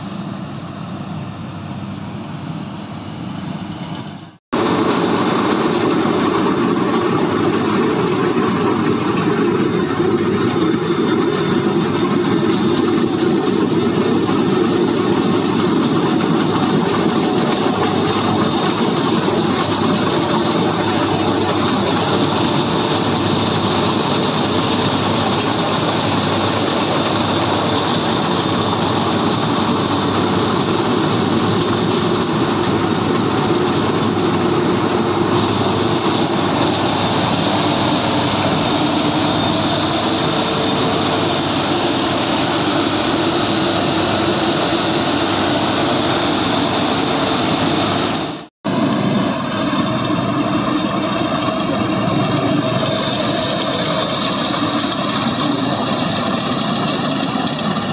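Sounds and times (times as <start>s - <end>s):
combine harvester running: 0.0s - 57.9s.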